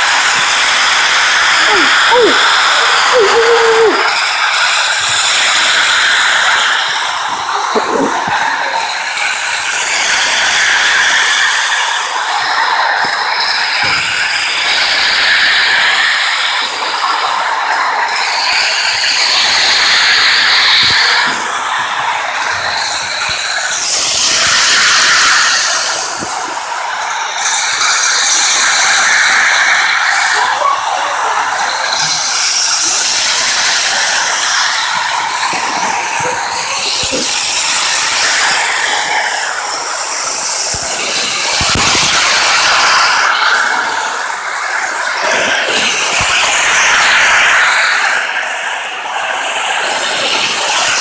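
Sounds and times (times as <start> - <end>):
model train whirring on rails: 0.0 - 51.0.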